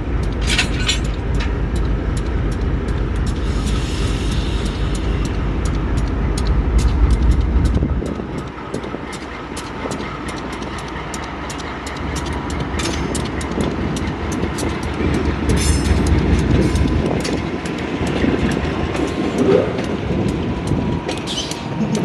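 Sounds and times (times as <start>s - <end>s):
train rumble: 0.0s - 22.0s
train wheels clicking over rail joints: 0.0s - 22.0s.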